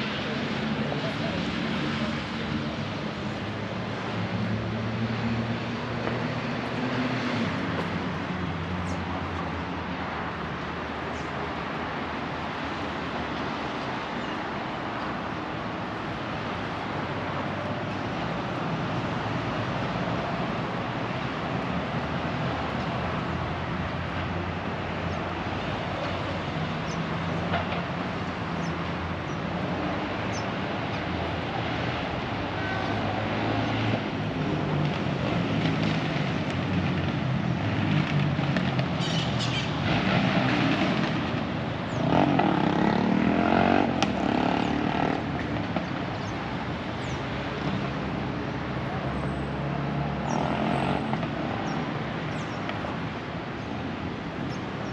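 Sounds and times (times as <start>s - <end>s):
passing cars: 0.0s - 54.9s.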